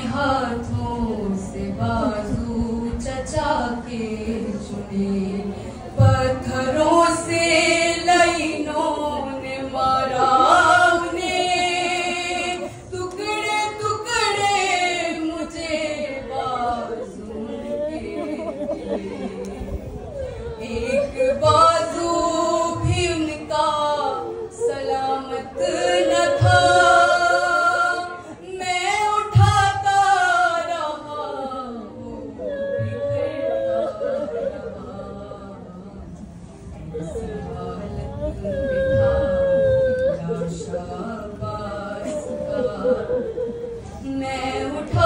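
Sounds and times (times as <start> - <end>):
woman singing a lament: 0.0 - 36.1, 36.8 - 45.0.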